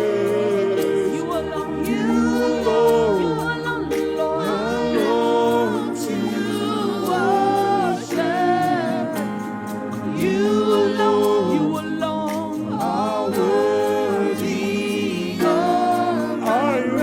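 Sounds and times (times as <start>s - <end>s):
sustained accompaniment: 0.0s - 12.0s, 12.6s - 17.0s.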